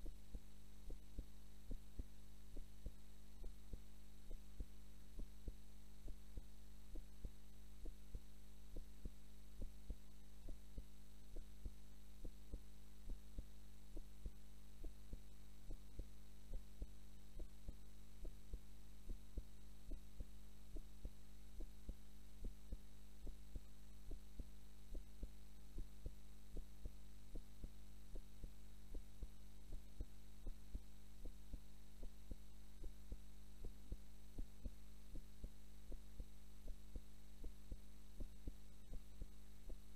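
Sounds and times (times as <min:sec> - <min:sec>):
constant low hum: 0:00.0 - 0:39.9
heartbeat thumps: 0:00.0 - 0:39.9.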